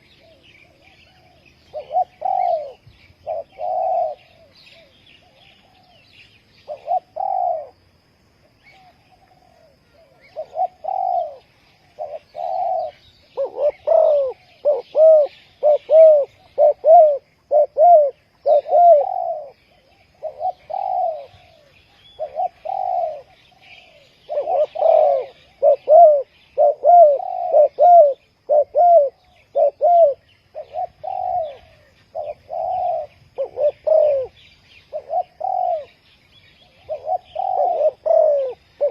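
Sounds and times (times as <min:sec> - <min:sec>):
doves cooing: 0:00.0 - 0:07.9, 0:08.7 - 0:38.9.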